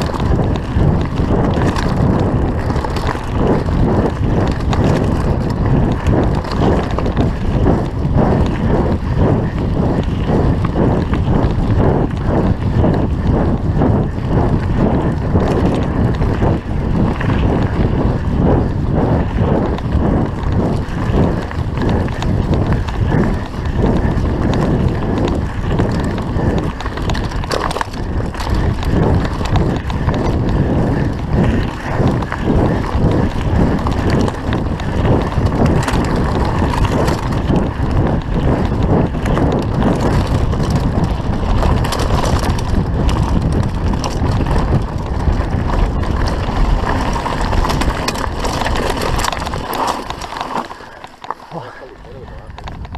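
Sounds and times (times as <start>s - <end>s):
bike clattering over rocks: 0.0s - 11.5s, 19.3s - 51.8s
tyre rumble: 0.0s - 52.9s
wind on microphone: 0.0s - 52.9s.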